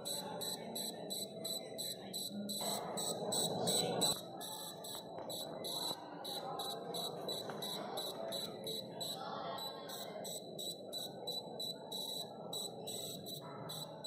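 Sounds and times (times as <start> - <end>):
high-pitched buzzer beeping: 0.0 - 14.0.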